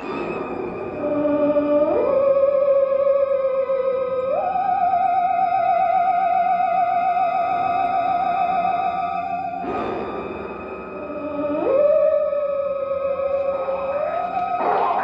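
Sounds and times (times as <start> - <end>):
theremin wavering tone: 0.0 - 9.7, 10.4 - 15.0.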